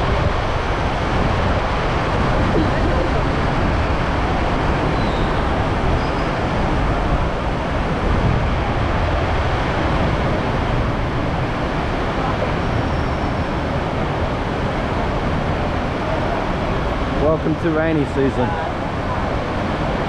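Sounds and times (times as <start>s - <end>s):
heavy rain falling: 0.0s - 20.0s
low rumble of traffic: 0.0s - 20.0s.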